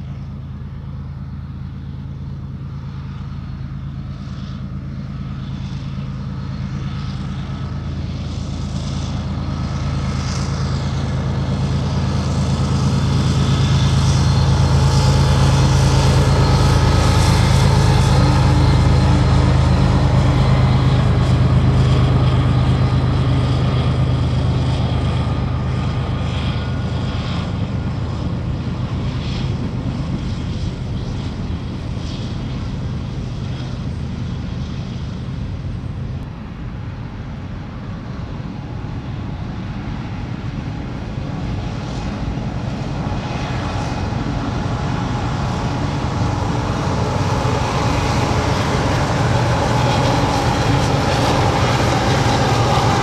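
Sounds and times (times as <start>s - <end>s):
diesel locomotives humming: 0.0s - 53.0s.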